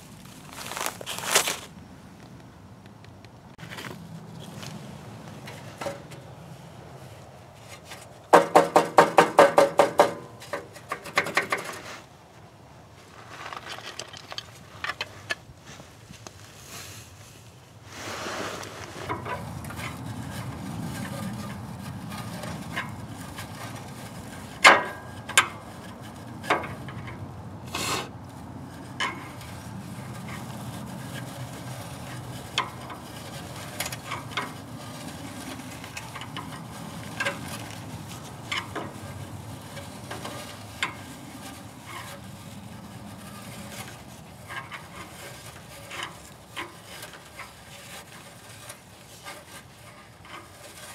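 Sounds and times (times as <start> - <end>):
rubbing and scraping: 0.0 - 1.7, 3.6 - 50.9.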